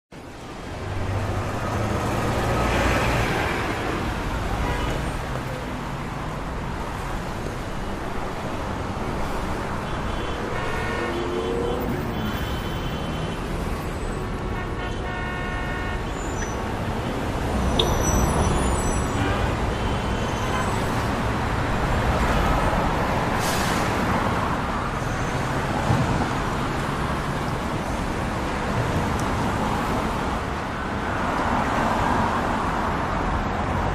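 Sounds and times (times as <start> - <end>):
passing traffic: 0.1 - 33.9.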